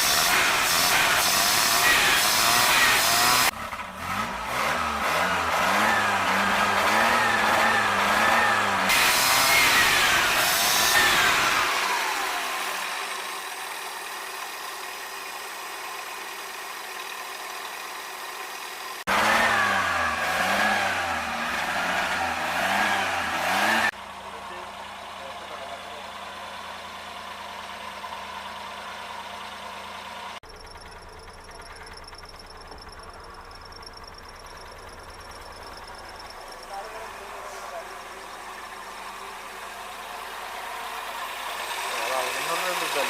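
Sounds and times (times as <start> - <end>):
small car engine revving: 0.0 - 16.3, 18.4 - 43.0.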